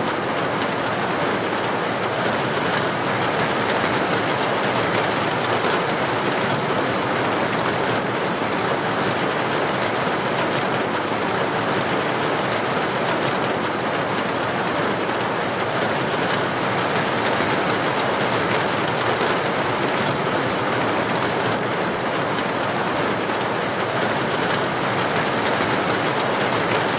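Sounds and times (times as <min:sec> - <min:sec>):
heavy rain on pavement: 0:00.0 - 0:26.9.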